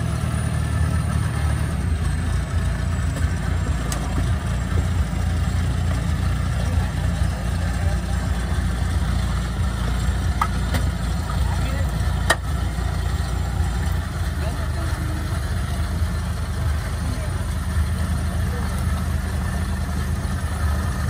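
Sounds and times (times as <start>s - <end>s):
harvester engine droning: 0.0s - 21.0s.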